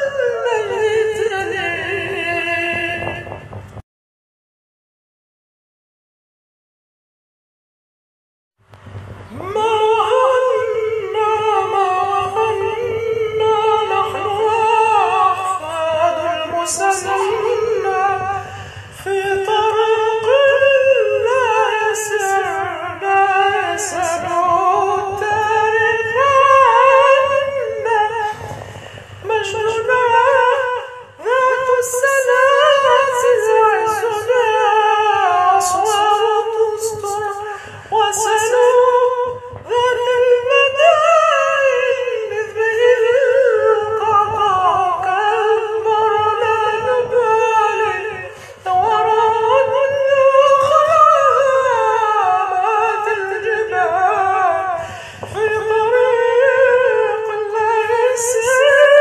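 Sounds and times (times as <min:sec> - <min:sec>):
man singing: 0:00.0 - 0:03.6, 0:09.3 - 0:59.0.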